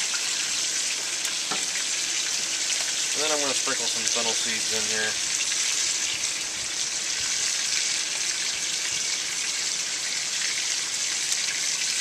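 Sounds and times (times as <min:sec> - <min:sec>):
sausages sizzling in oil: 0:00.0 - 0:12.0.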